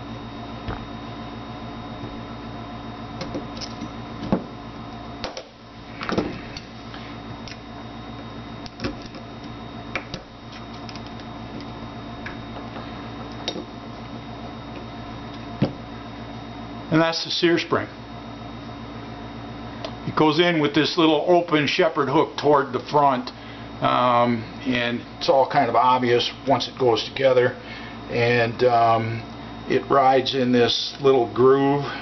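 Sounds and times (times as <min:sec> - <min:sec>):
background hum: 0:00.0 - 0:32.0.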